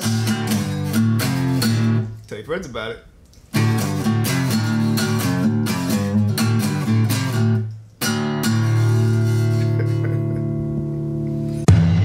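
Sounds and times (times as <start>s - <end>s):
strummed guitar chord ringing: 0.0s - 2.1s, 3.6s - 12.0s
acoustic guitar blues run: 0.0s - 11.8s.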